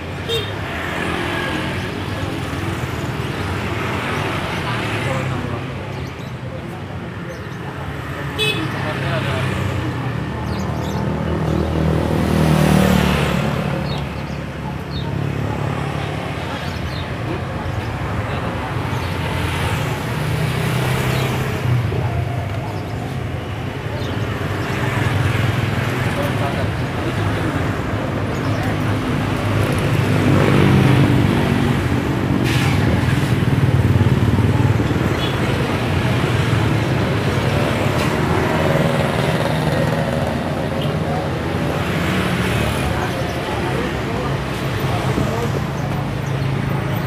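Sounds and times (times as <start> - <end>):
motor vehicles rumbling: 0.0 - 47.0.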